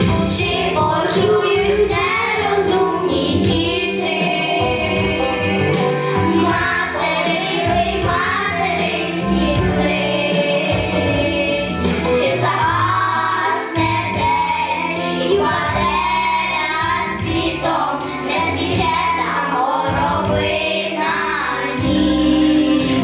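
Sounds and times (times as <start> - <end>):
children singing: 0.0 - 23.0
instrumental backing track: 0.0 - 23.0.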